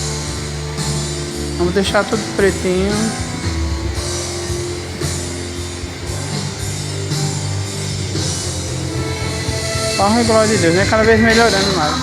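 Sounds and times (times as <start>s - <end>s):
band music over loudspeakers: 0.0s - 12.0s.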